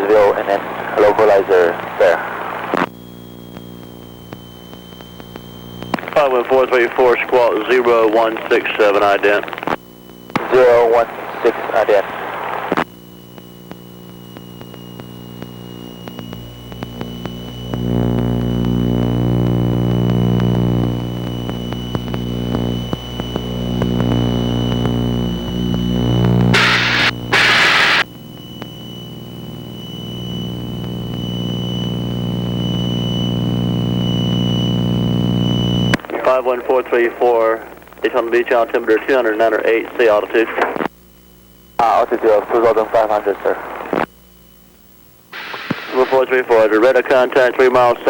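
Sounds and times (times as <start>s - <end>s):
electrical hum with high whine: 0.0s - 48.0s
static bursts: 0.0s - 48.0s.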